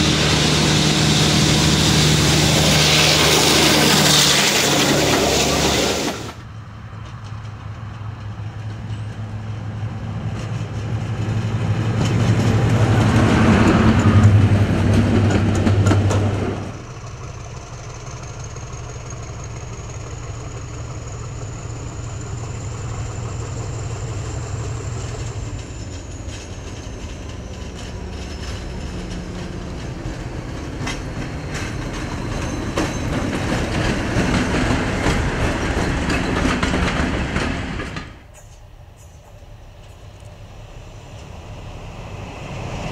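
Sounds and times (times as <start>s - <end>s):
diesel locomotive engine: 0.0s - 42.9s
train wheels clickety-clack: 2.6s - 40.4s.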